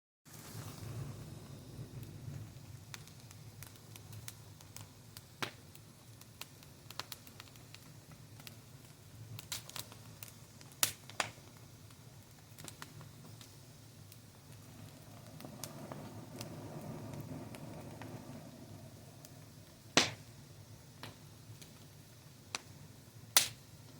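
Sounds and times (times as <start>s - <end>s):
low rumble of burning: 0.3s - 23.9s
sharp pops from fire: 0.3s - 23.9s
wood fire crackling: 0.3s - 23.9s.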